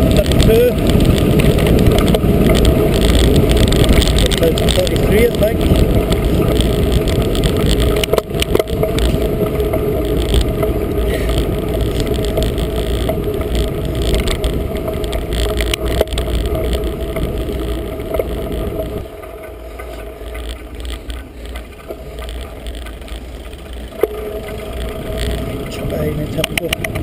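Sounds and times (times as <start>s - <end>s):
tyres running on tarmac: 0.0s - 27.0s
wind buffeting microphone: 0.0s - 27.0s.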